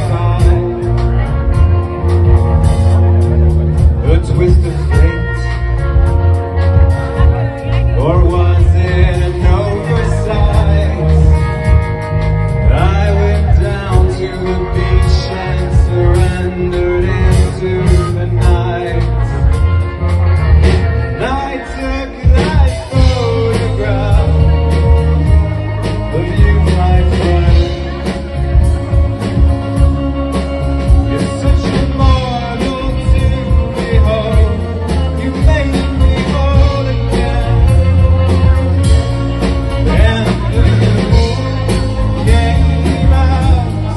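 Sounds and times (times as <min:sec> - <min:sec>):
person singing: 0:00.0 - 0:43.9
rock band playing: 0:00.0 - 0:43.9.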